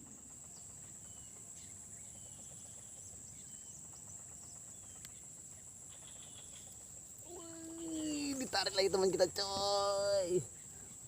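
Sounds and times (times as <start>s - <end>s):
faint bird chirps: 0.0s - 11.0s
insects droning: 0.0s - 11.0s.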